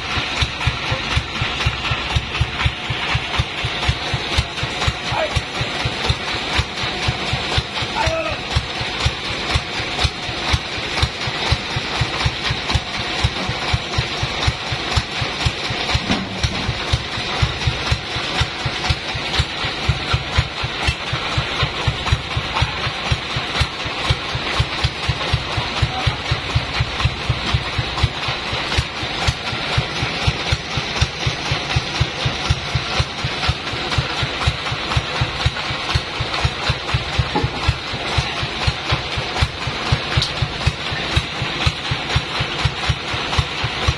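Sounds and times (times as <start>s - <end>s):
engine idling with pulsing beat: 0.0s - 43.9s.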